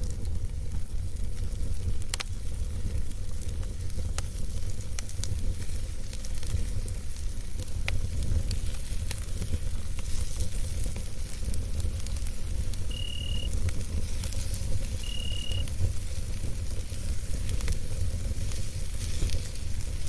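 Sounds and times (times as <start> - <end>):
campfire crackling: 0.0 - 20.0
fire pops: 0.0 - 20.0.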